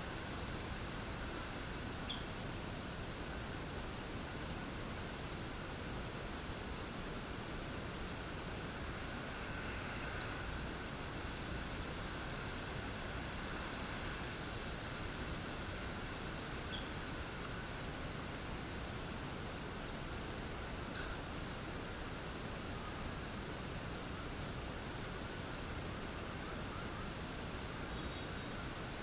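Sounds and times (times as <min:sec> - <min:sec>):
insect trill: 0:00.0 - 0:29.0
light rain on foliage: 0:00.0 - 0:29.0.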